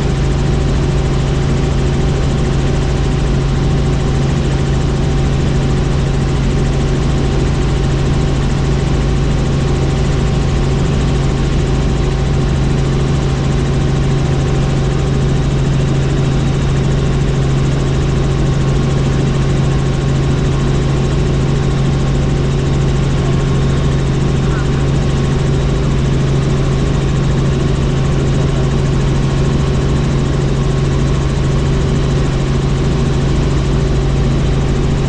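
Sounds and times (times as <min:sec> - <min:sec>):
helicopter droning: 0:00.0 - 0:35.0.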